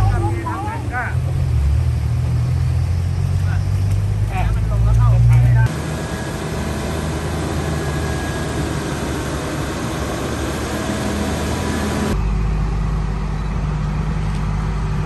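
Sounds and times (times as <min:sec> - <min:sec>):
deep engine rumble: 0:00.0 - 0:15.0
heavy vehicle engines idling: 0:00.0 - 0:15.0.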